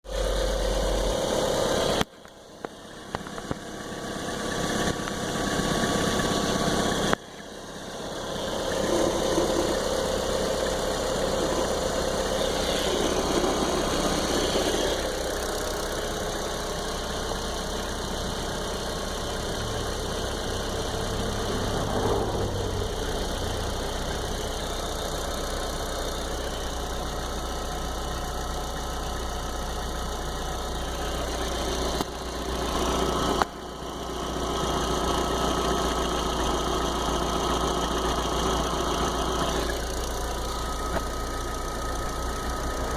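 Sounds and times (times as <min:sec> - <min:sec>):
car engine running: 0:00.0 - 0:42.9
strange extra engine noise: 0:00.0 - 0:42.9.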